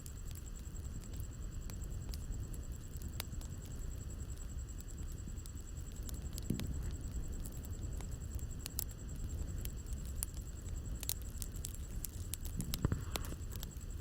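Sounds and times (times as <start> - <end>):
burning wood crackling: 0.0 - 14.0
low rumble of flames: 0.0 - 14.0.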